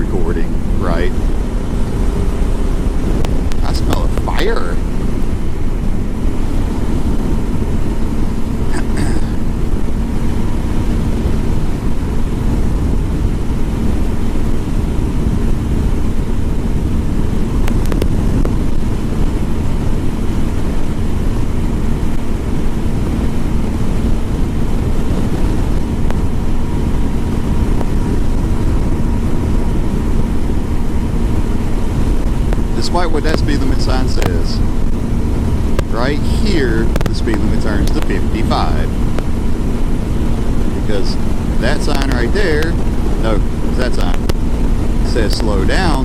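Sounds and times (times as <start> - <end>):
motorcycle engine rumble: 0.0 - 46.0
wind rushing over microphone: 0.0 - 46.0.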